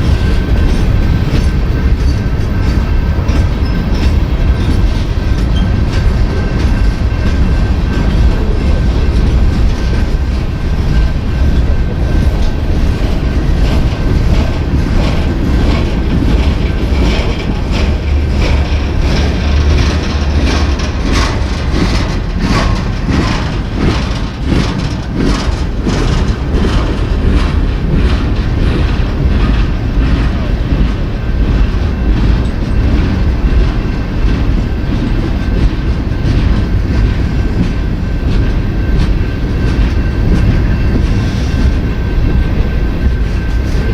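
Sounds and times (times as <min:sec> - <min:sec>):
freight train rumbling past: 0:00.0 - 0:43.9
wheels clicking over rail joints: 0:00.0 - 0:43.9.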